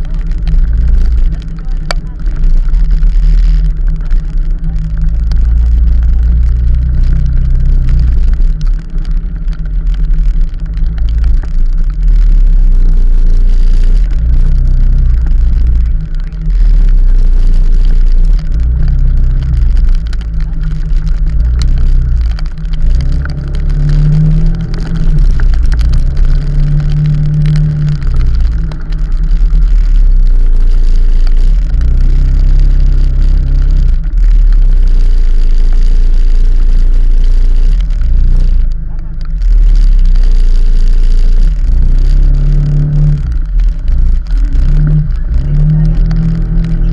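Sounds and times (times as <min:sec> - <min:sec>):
vehicle rumbling on a ride: 0:00.0 - 0:46.9.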